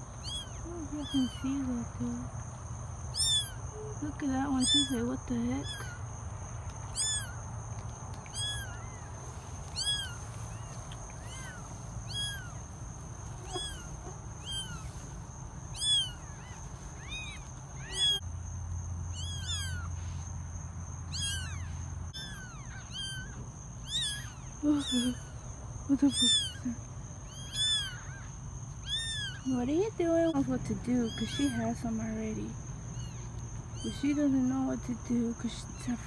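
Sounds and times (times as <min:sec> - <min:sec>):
kittens mewing: 0:00.0 - 0:18.3, 0:19.1 - 0:20.3, 0:21.0 - 0:32.3, 0:32.9 - 0:34.6.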